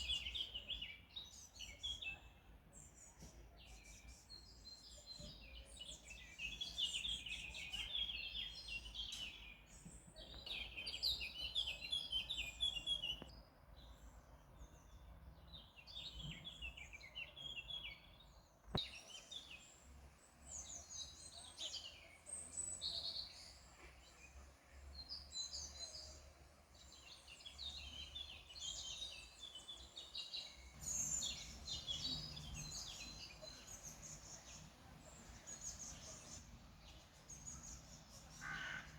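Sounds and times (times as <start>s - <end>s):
songbirds twittering: 0.0s - 38.9s.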